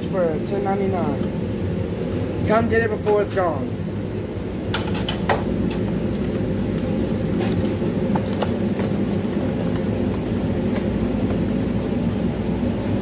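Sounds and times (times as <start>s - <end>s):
kitchen machinery humming: 0.0s - 13.0s.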